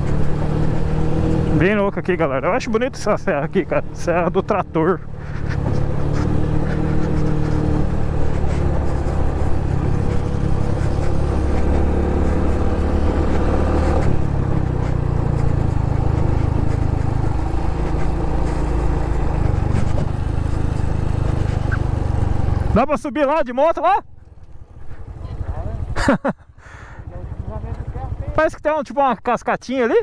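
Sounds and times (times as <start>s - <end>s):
motorcycle engine running: 0.0s - 23.0s, 24.0s - 28.6s.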